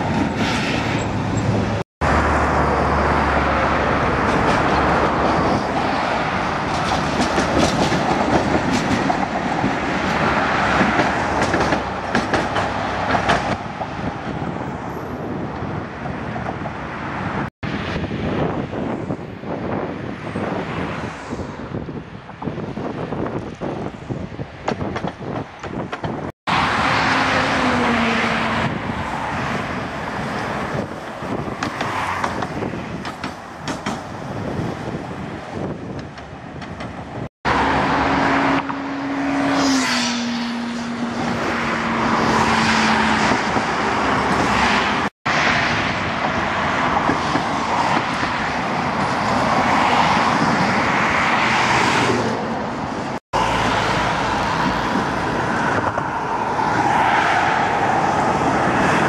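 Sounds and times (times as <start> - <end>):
cars passing: 0.0 - 59.0
trams passing: 0.0 - 59.0.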